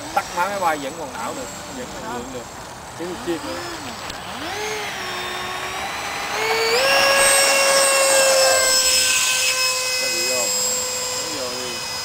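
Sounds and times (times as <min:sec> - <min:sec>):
model airplane motor whining: 0:00.0 - 0:12.0.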